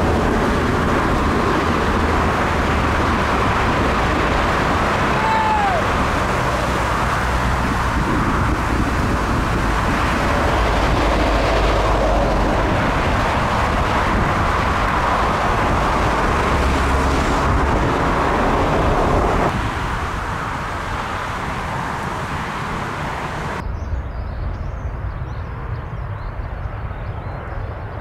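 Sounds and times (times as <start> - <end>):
jet engine rush and rumble: 0.0 - 28.0.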